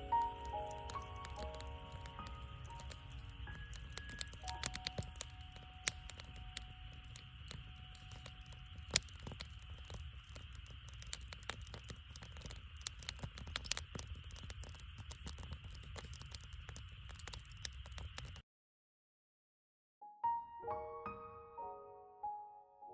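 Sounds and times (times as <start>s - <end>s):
campfire crackling and popping: 0.0s - 18.4s.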